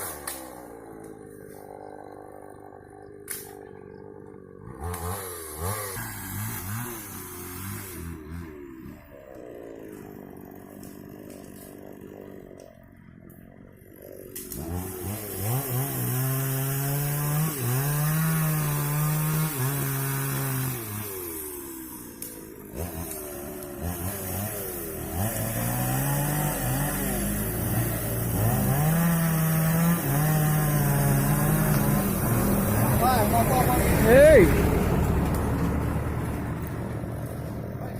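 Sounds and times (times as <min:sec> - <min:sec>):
chainsaw engine revving: 0:00.0 - 0:37.9.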